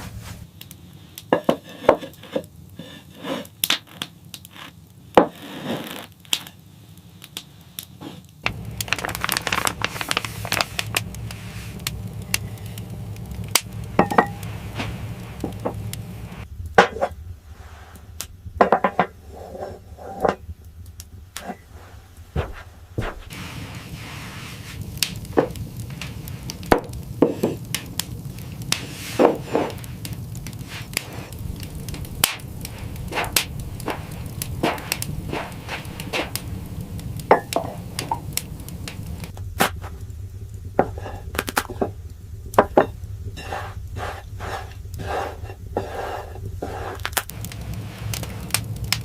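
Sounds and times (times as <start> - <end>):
handling knocks and scrapes: 0.0 - 0.5, 1.3 - 6.2, 8.0 - 17.2, 18.6 - 20.4, 21.4 - 40.0, 40.8 - 42.0, 42.6 - 49.0
crinkling: 0.0 - 18.1, 18.9 - 49.0
low steady hum: 8.4 - 49.0.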